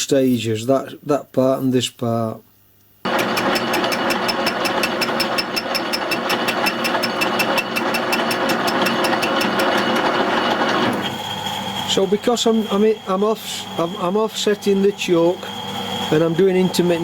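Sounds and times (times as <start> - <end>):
metal lathe running: 3.1 - 17.0.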